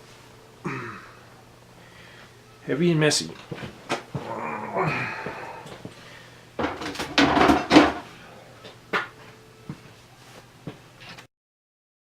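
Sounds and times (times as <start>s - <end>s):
faint steady hum: 0.0s - 11.2s.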